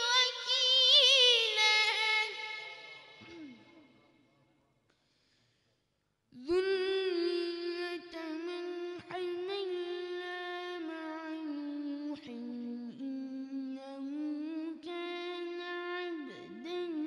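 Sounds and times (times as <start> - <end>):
person reciting melodically: 0.0 - 3.7, 6.4 - 17.0.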